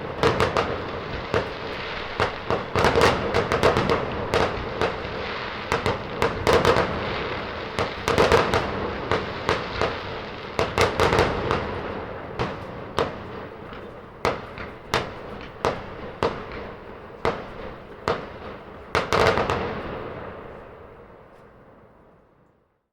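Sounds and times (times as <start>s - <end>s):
fireworks crackling: 0.0s - 21.6s
fireworks bangs: 0.0s - 22.0s.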